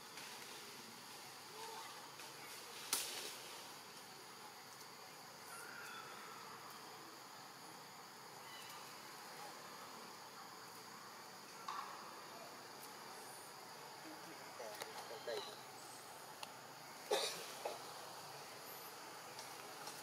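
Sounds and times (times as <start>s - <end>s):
forest insects chorus: 0.0s - 20.0s.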